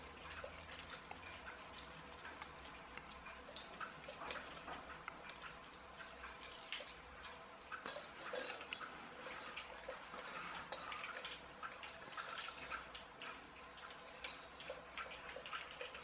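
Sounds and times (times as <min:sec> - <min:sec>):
small clicks and scratches: 0:00.0 - 0:16.0.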